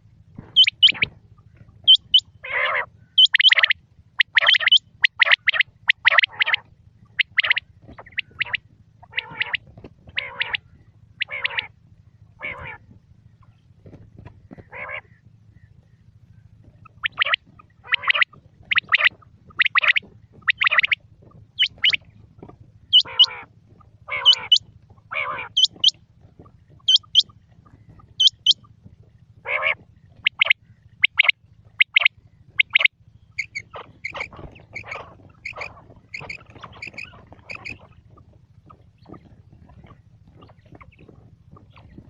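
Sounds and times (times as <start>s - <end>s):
faint low hum: 0.0s - 42.0s
quail calling: 0.4s - 42.0s.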